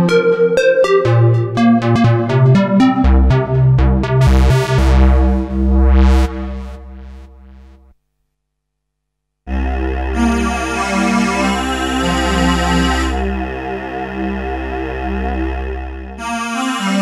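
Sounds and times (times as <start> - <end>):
low synth bass line: 0.0 - 7.9, 9.5 - 16.8
synthesizer lead notes: 0.0 - 7.9, 9.5 - 17.0.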